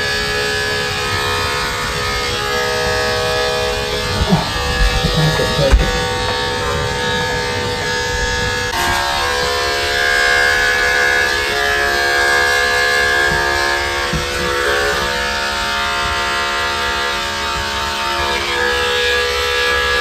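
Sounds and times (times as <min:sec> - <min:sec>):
electric clippers buzzing: 0:00.0 - 0:20.0.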